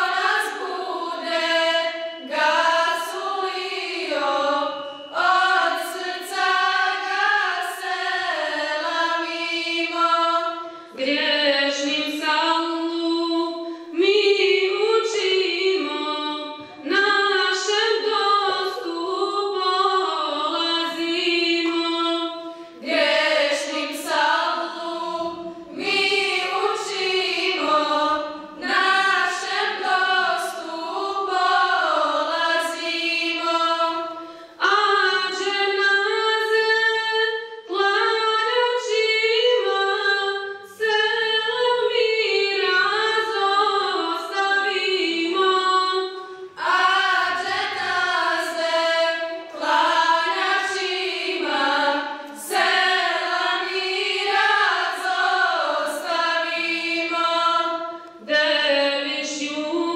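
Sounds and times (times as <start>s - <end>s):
choir of high voices singing a hymn: 0.0s - 59.9s.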